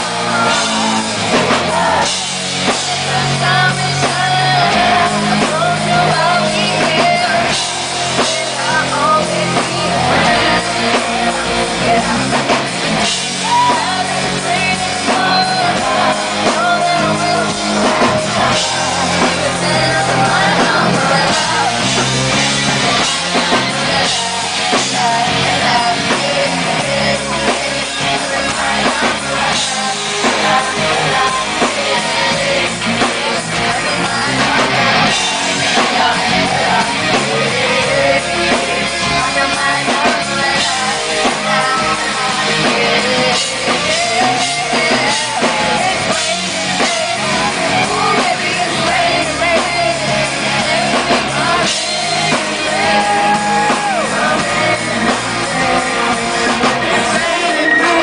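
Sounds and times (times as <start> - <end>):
live pop-rock band playing: 0.0 - 58.0
woman singing: 0.0 - 58.0.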